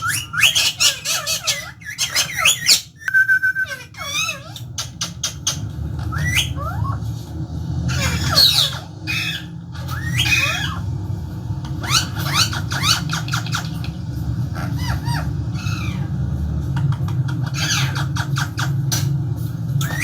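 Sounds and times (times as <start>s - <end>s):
parrot squawking and screeching: 0.0s - 20.0s
steady low hum: 0.0s - 20.0s.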